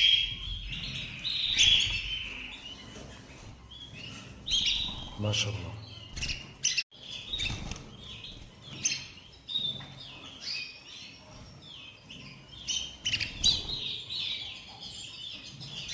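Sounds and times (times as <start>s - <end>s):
canaries chirping and trilling: 0.0s - 15.9s.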